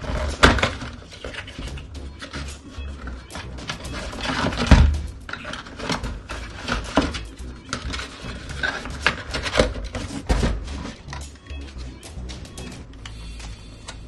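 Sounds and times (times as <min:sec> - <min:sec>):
cardboard and plastic packaging handled: 0:00.0 - 0:12.0.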